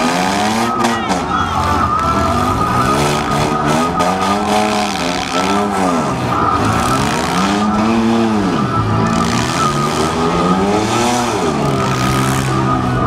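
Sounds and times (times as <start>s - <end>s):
car engines revving: 0.0s - 13.0s
engines running steadily: 0.0s - 13.0s.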